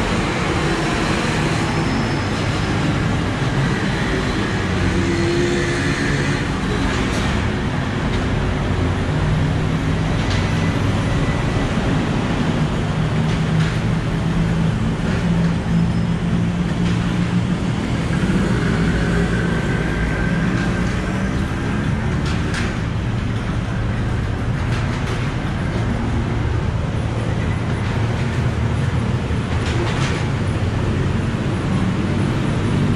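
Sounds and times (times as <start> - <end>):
vehicle engines rumbling: 0.0 - 32.9.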